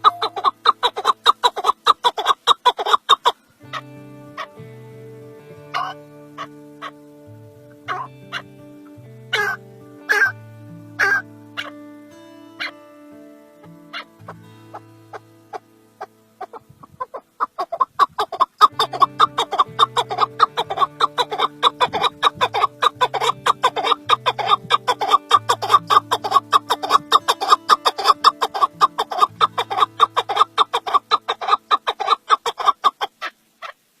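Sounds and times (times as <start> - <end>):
partridge clucking call: 0.0 - 4.7, 5.6 - 7.1, 7.7 - 11.8, 12.6 - 12.8, 13.6 - 33.8
background music with low notes: 0.0 - 33.0.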